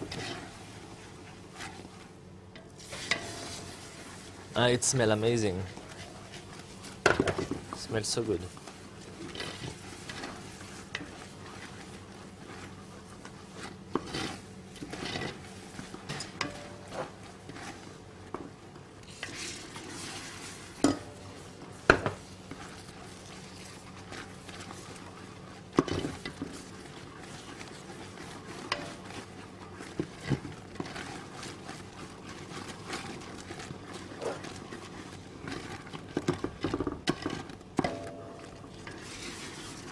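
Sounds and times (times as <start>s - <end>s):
wooden spoon scraping metal pot: 0.0s - 39.9s.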